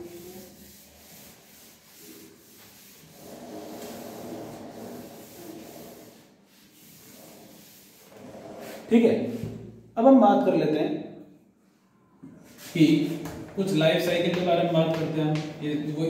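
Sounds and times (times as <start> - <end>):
duster wiping chalkboard: 0.0 - 9.7, 12.4 - 15.9.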